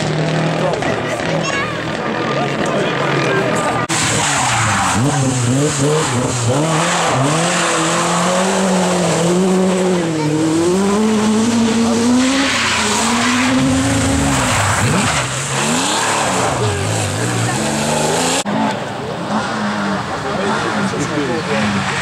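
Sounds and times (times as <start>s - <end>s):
rally car engine revving hard: 0.0s - 22.0s.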